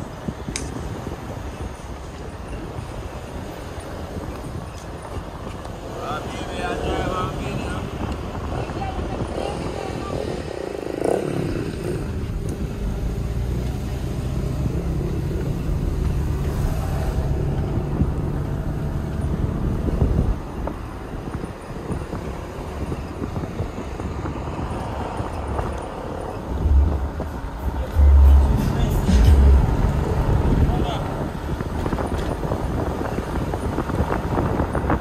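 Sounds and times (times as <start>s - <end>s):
car engine hum: 0.0s - 35.0s
road and wind noise: 0.0s - 35.0s.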